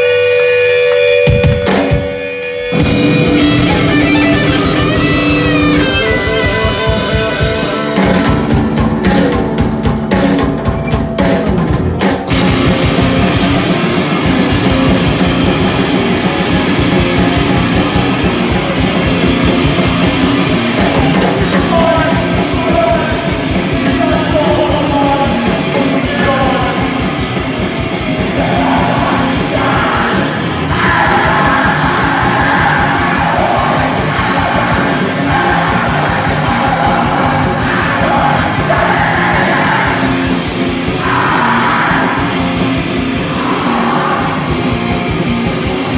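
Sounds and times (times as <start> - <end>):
electric guitar heavy riffs: 0.0 - 45.9
drum kit with crashing cymbals: 1.2 - 45.9.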